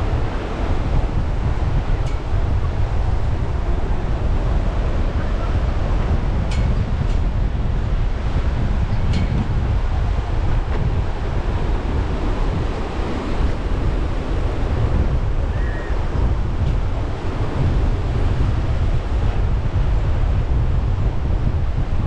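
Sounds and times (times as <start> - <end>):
ocean surf washing on beach: 0.0 - 22.0
wind buffeting microphone: 0.0 - 22.0.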